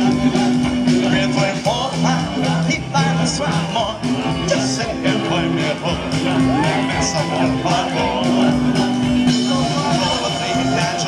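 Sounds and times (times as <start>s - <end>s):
bass guitar: 0.0s - 11.0s
drums and cymbals: 0.0s - 11.0s
person singing: 0.0s - 11.0s.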